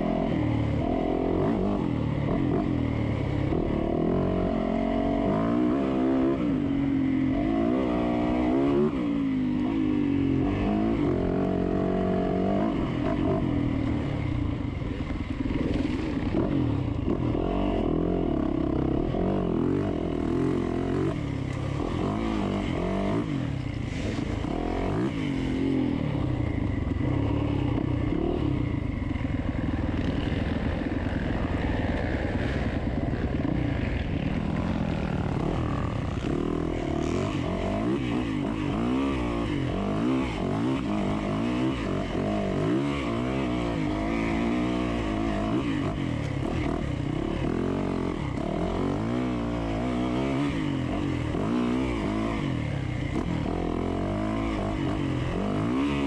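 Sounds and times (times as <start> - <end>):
dirt bike engine revving: 0.0 - 14.2, 15.4 - 56.0.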